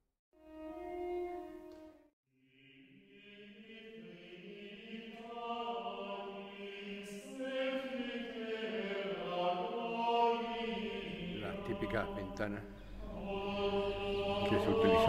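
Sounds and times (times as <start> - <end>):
slow choral chant: 2.4 - 15.0.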